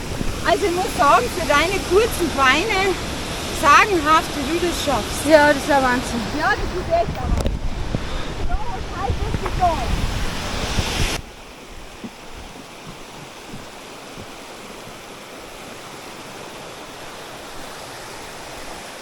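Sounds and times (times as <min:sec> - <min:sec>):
stream and waterfalls rushing: 0:00.0 - 0:19.0.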